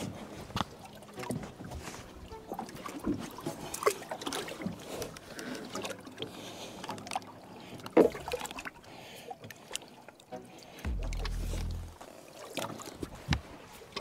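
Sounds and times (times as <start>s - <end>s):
light water splashing: 0.0s - 14.0s.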